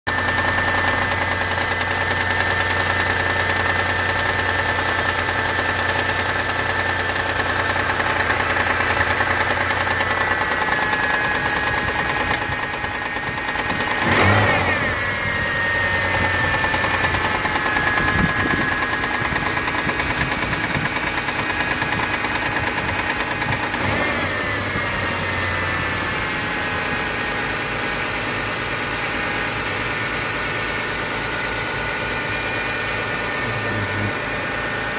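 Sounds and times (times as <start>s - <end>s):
engine idling with knocking: 0.1s - 34.9s.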